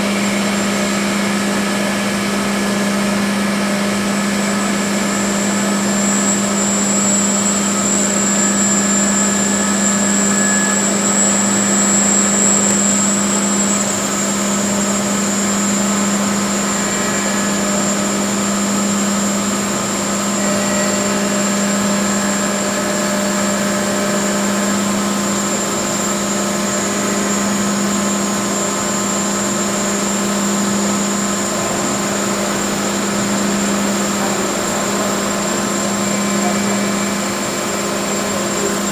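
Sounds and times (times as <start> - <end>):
drilling machine hum and whine: 0.0 - 38.9.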